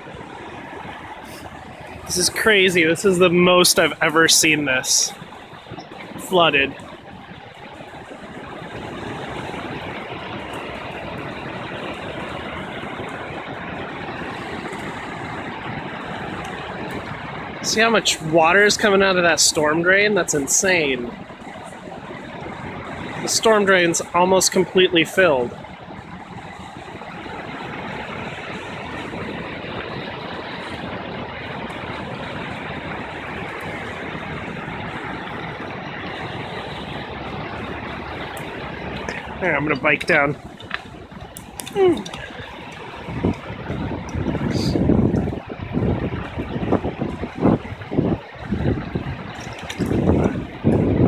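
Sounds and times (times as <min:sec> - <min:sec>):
floodwater rushing down channel: 0:00.0 - 0:51.0
freeway traffic hum: 0:00.0 - 0:51.0
storm drain pouring: 0:00.0 - 0:51.0.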